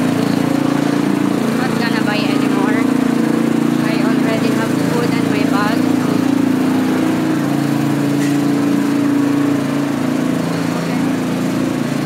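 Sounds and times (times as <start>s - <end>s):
machine droning: 0.0s - 12.0s.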